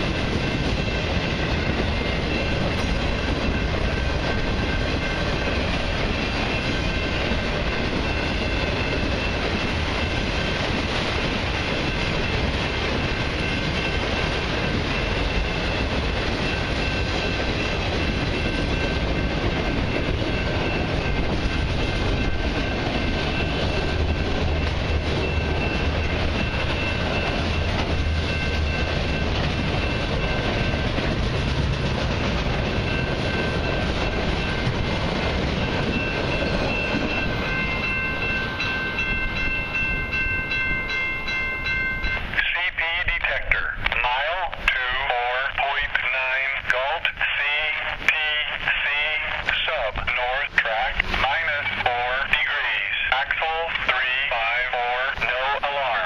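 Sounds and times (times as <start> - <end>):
crossing warning bell ringing: 0.0 - 56.0
train wheels rumbling on rails: 0.0 - 56.0.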